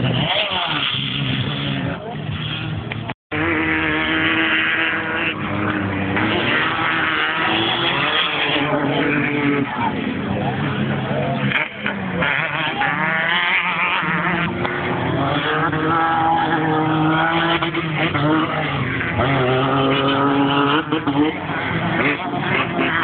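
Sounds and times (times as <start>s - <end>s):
race car engine revving hard: 0.0s - 23.0s.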